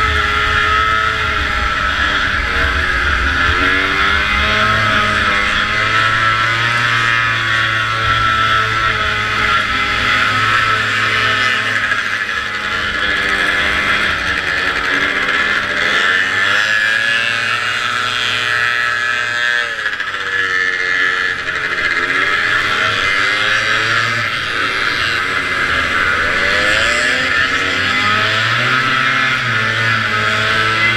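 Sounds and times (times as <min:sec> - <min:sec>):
snowmobile engine revving: 0:00.0 - 0:30.9.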